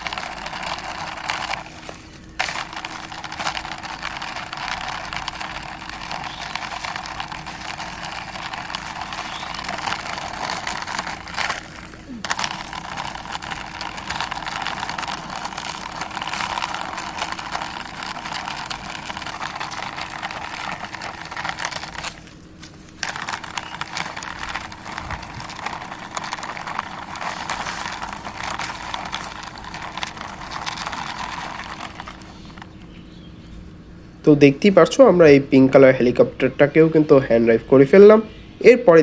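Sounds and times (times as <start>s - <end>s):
plastic toy rattling scrape: 0.0s - 32.8s.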